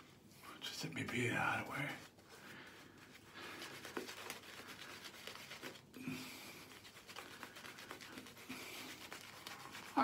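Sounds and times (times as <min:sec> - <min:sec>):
lather rubbing into beard: 0:01.0 - 0:10.0.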